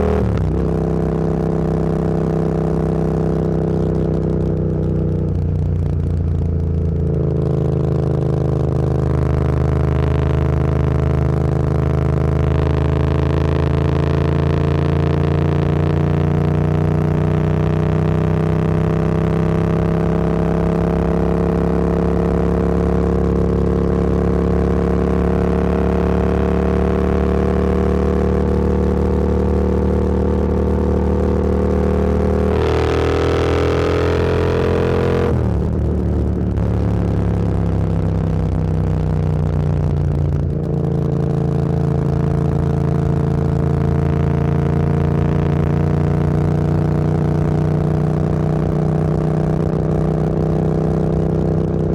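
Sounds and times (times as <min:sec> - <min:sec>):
motorcycle engine and exhaust: 0:00.0 - 0:51.9
wind and road rush: 0:00.0 - 0:51.9.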